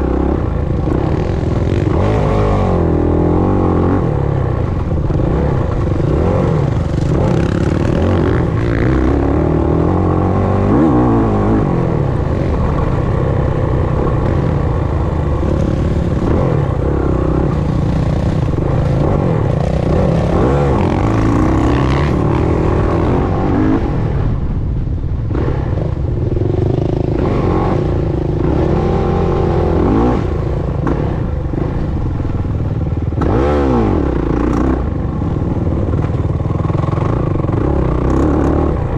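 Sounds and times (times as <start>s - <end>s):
dirt bike engine revving: 0.0s - 24.3s, 25.3s - 32.2s, 33.2s - 35.7s, 36.6s - 38.9s.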